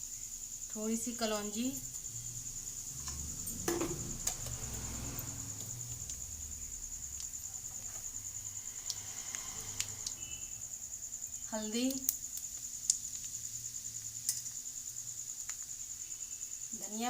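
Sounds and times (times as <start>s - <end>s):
spices sputtering in hot oil: 0.3s - 17.0s.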